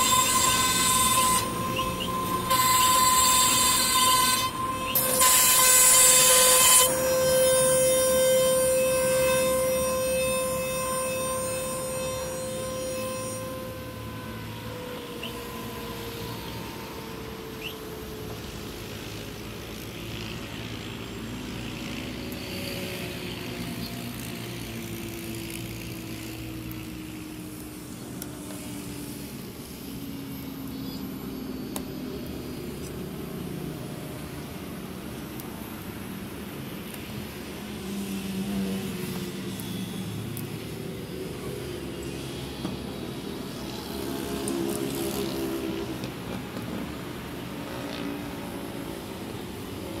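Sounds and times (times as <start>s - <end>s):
steady machine hum: 0.0s - 44.1s
spindle motor whining: 0.0s - 50.0s.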